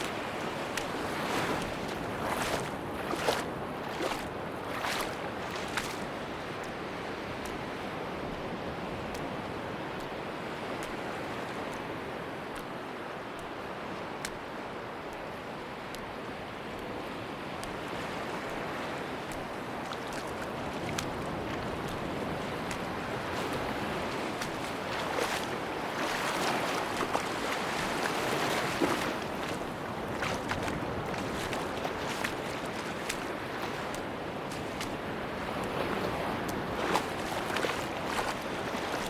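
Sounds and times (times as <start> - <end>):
sea surf washing on beach: 0.0 - 39.0.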